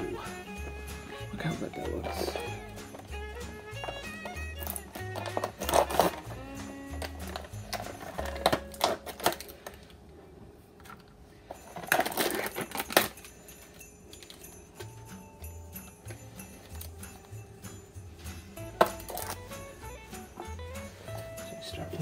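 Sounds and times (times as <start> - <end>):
background music: 0.0 - 9.8, 12.0 - 22.0.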